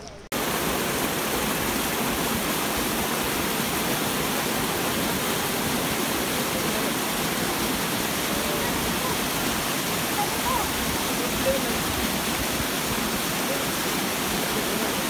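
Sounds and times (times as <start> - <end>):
waterfall rushing over rocks: 0.3 - 15.0.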